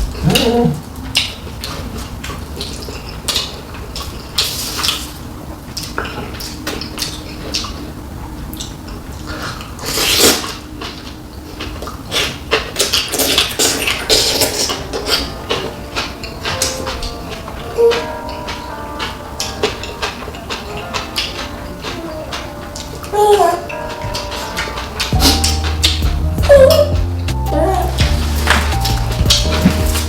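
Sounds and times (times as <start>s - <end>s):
chewing: 0.0s - 30.0s.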